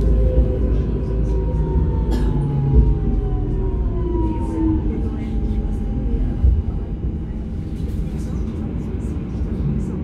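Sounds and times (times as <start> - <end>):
tram running rumble: 0.0 - 10.0.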